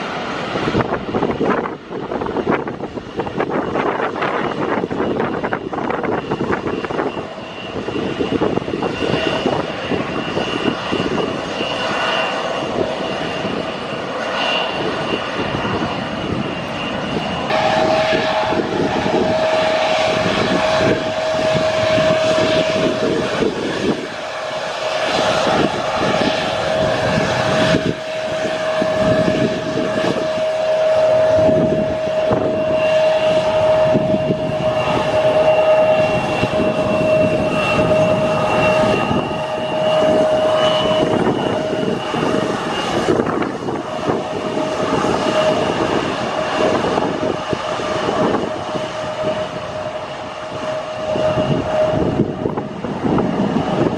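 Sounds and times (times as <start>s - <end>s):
jet engines whining and roaring: 0.0s - 53.9s
wind buffeting microphone: 0.0s - 53.9s.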